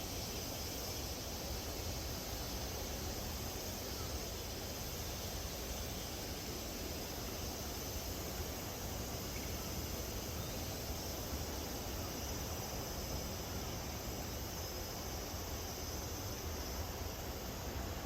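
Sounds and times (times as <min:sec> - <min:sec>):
cicadas shrilling: 0:00.0 - 0:18.0.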